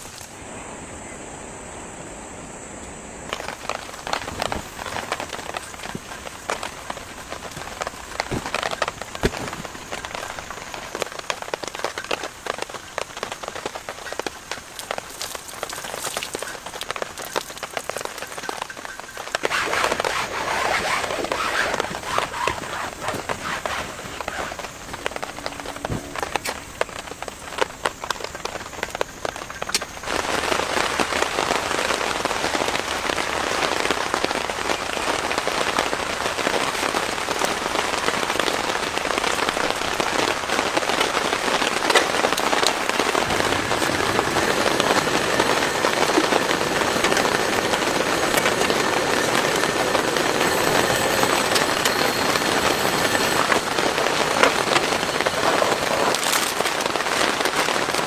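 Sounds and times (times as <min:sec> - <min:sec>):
raindrops striking close by: 0:00.0 - 0:00.4, 0:02.8 - 0:58.0
heavy rain: 0:00.0 - 0:58.0.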